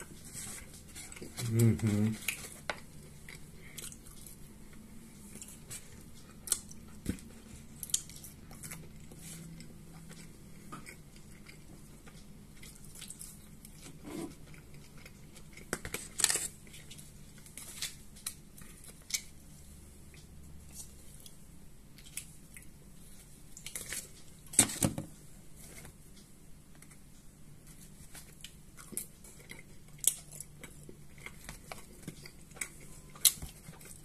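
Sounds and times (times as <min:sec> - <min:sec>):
chewing crunchy pastries: 0:00.0 - 0:34.0.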